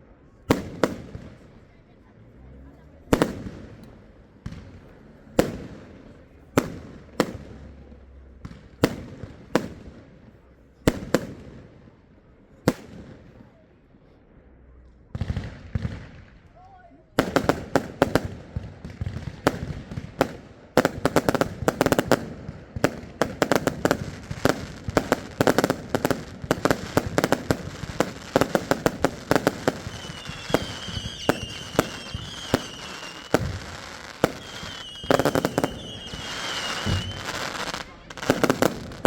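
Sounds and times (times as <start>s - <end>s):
fireworks bangs and crackles: 0.1s - 39.0s.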